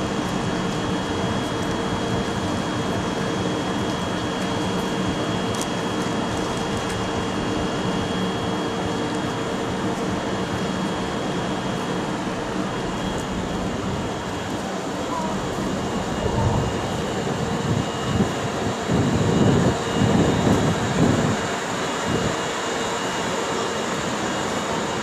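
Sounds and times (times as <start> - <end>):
train equipment humming: 0.0 - 21.4.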